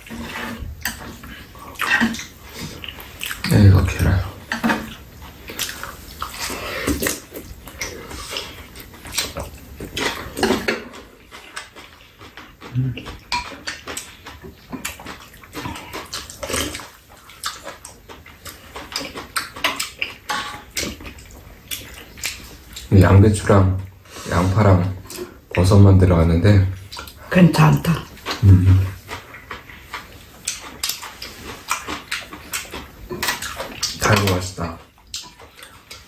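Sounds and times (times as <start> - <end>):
wet chewing and lip-smacking: 0.0 - 3.5, 4.4 - 22.9, 26.8 - 36.0.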